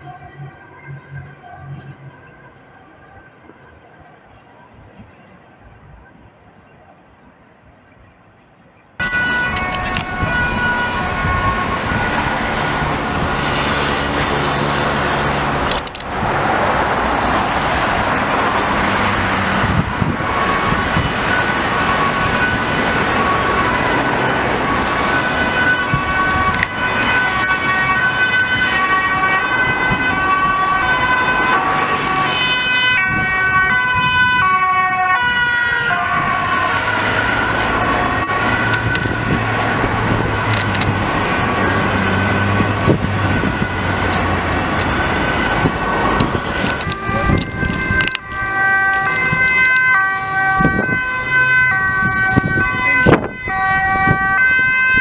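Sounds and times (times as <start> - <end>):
ambulance two-tone siren: 0.0 - 5.4, 9.0 - 55.0
road traffic: 0.0 - 55.0.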